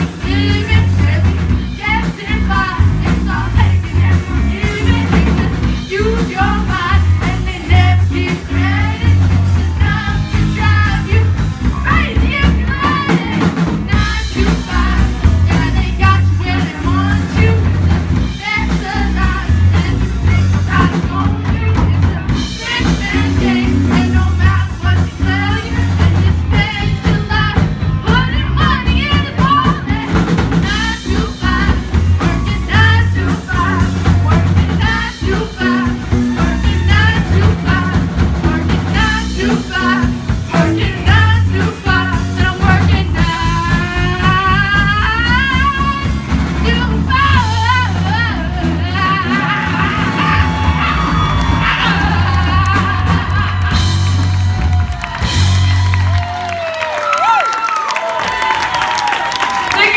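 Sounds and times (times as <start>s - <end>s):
person singing lead vocal: 0.0s - 54.5s
rock band playing: 0.0s - 59.9s.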